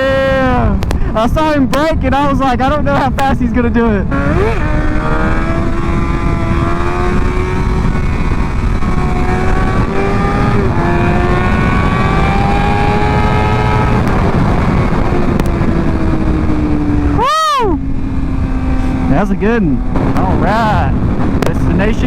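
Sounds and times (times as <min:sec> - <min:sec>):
wind rush: 0:00.0 - 0:22.0
motorcycle engine accelerating: 0:03.0 - 0:22.0.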